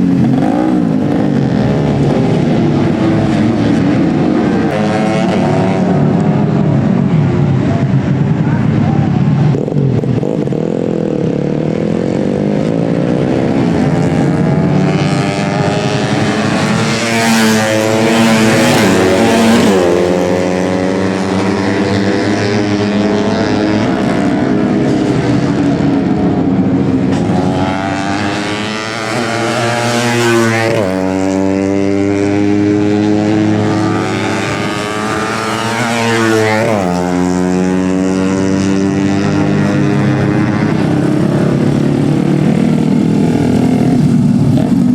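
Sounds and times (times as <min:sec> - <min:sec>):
race motorcycles at full throttle: 0:00.0 - 0:44.9.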